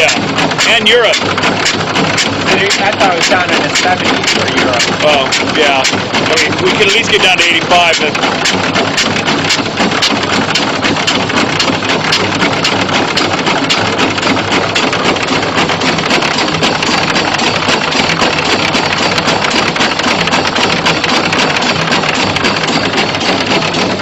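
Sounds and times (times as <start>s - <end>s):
fast clattering clicks: 0.0s - 24.0s
industrial pump engine hum: 0.0s - 24.0s.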